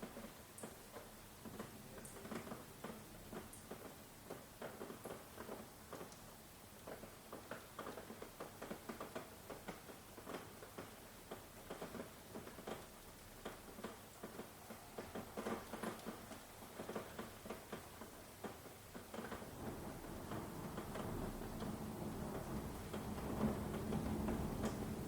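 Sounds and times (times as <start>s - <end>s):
raindrops pattering: 0.0s - 25.0s.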